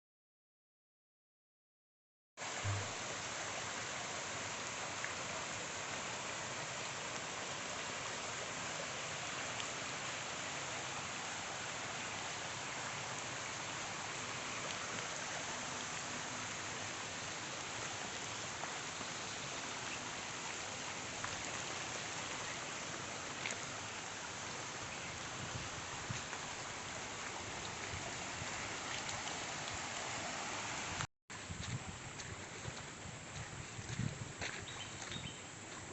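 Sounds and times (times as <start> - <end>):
steady rain hiss: 2.4 - 35.9.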